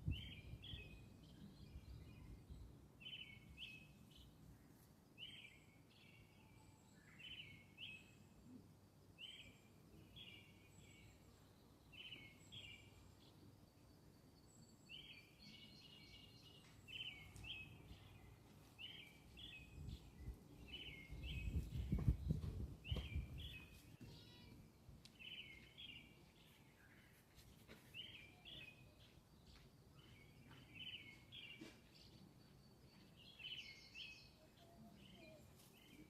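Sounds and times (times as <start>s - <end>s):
bird chirping: 0.0s - 4.4s, 5.2s - 8.4s, 9.2s - 36.0s.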